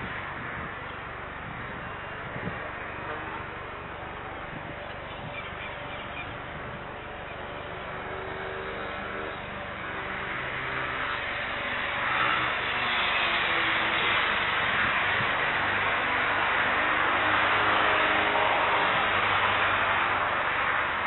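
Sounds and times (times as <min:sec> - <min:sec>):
distant jet engines: 0:00.0 - 0:21.0.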